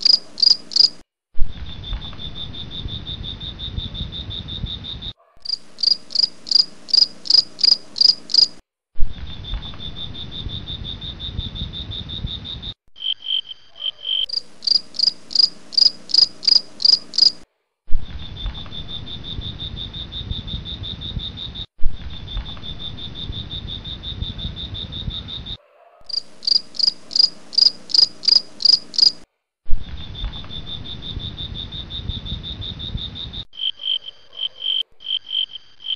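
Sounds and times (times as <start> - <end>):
insects trilling and chirping: 0.0 - 1.0, 1.6 - 8.6, 9.3 - 17.4, 18.3 - 29.2, 30.0 - 35.9.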